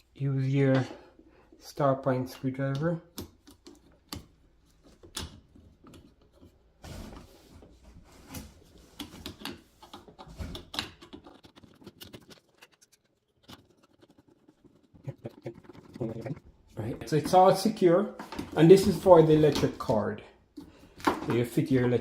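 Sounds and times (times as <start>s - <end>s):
parts being handled: 3.1s - 21.8s.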